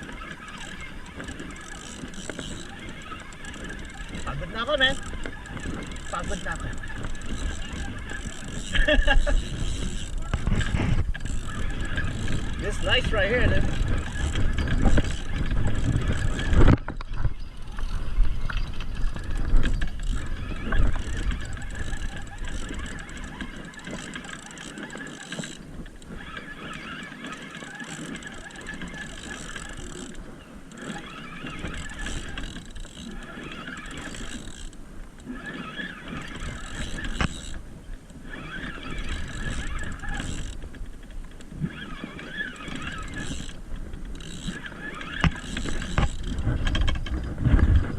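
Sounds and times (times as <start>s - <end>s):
wind on microphone: 0.0s - 27.0s, 27.6s - 47.9s
fishing reel ratcheting: 0.0s - 47.9s.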